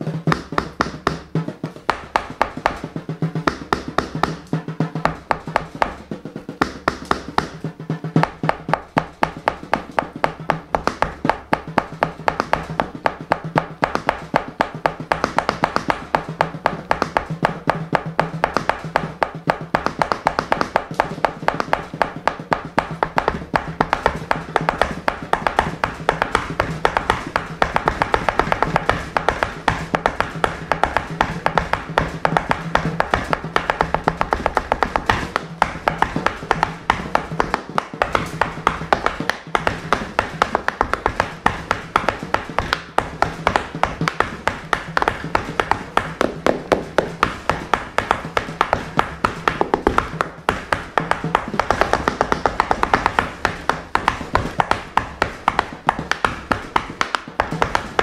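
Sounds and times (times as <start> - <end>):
tap shoes on wooden board: 0.0 - 58.0.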